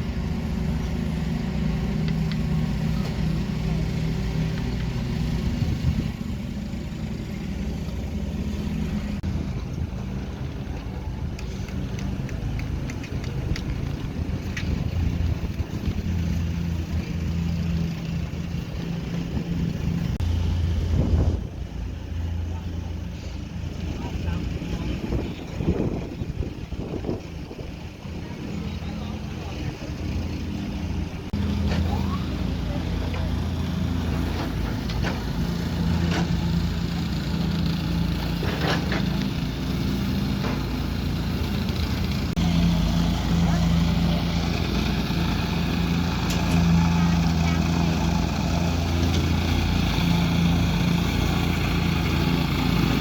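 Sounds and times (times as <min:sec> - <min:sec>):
diesel engine humming: 0:00.0 - 0:53.0.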